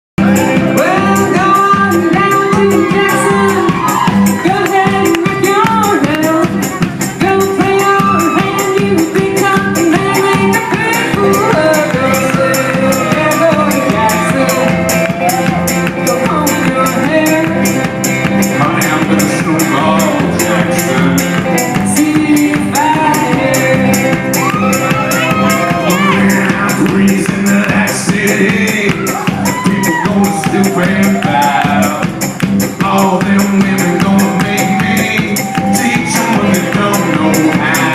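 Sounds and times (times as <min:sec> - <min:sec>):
person singing melody: 0:00.2 - 0:37.9
rapid high jingling percussion: 0:00.2 - 0:37.9.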